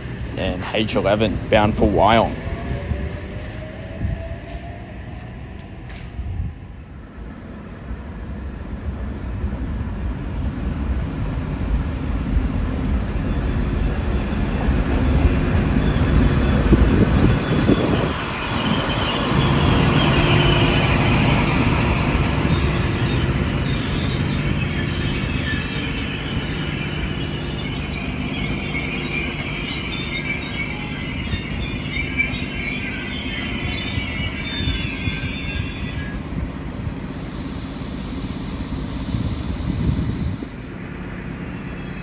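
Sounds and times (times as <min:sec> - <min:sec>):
train wheels squealing: 0:00.0 - 0:06.3, 0:12.9 - 0:42.0.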